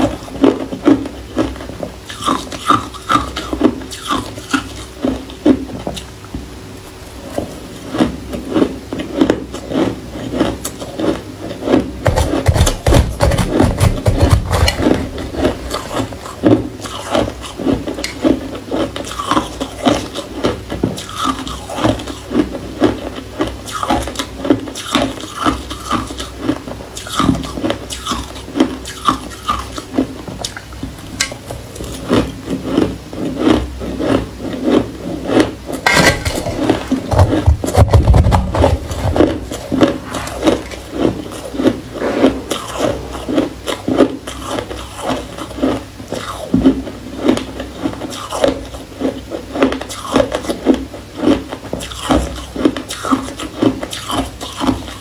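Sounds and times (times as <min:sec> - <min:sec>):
ice being chewed: 0:00.0 - 0:06.4, 0:07.2 - 0:55.0.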